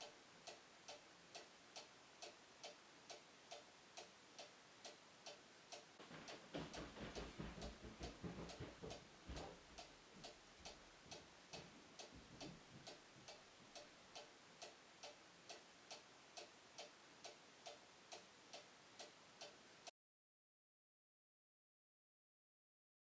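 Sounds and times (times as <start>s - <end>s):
clock ticking: 0.0s - 19.9s.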